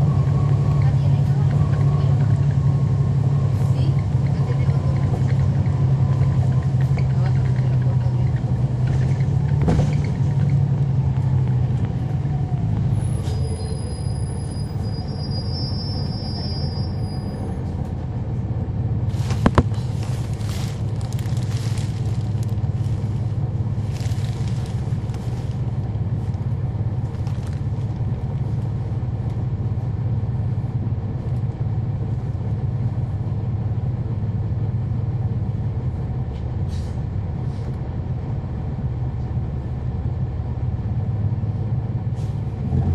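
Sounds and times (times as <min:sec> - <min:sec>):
bus diesel engine droning: 0:00.0 - 0:42.9.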